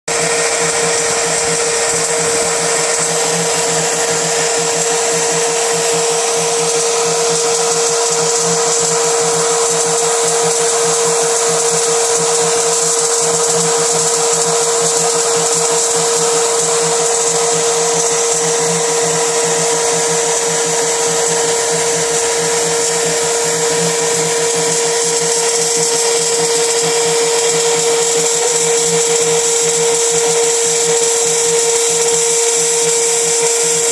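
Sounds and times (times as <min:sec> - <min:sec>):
spindle whining while drilling plastic: 0:00.1 - 0:33.9.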